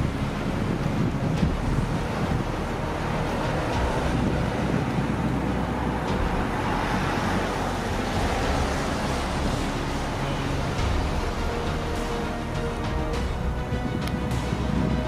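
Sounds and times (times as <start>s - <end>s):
distant traffic: 0.0s - 15.0s
wind rumble on microphone: 0.0s - 15.0s.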